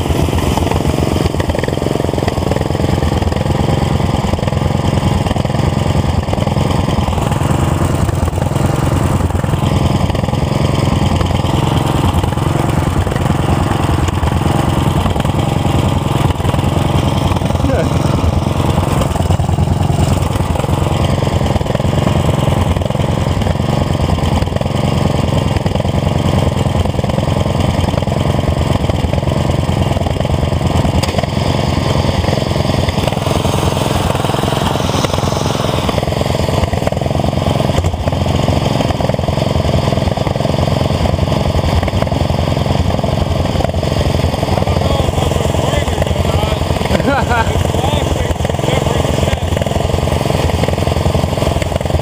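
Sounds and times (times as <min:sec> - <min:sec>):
lawn tractor engine idling: 0:00.0 - 0:52.0.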